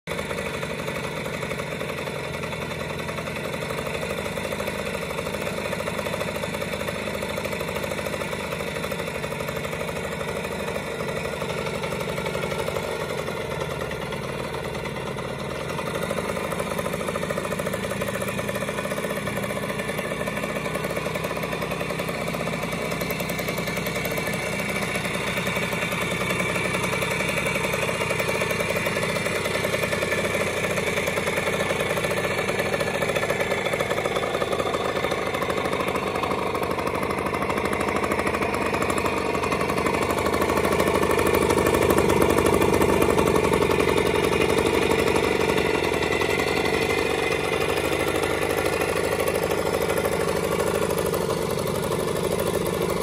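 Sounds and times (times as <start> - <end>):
two-stroke engine idling: 0.0 - 53.0.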